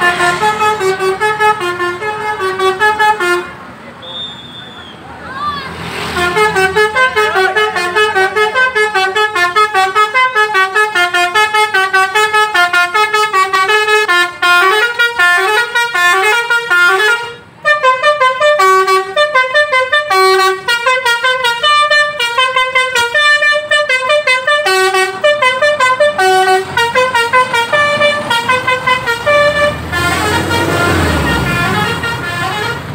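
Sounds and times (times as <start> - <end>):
musical air horn melody: 0.0 - 4.3, 6.0 - 32.9.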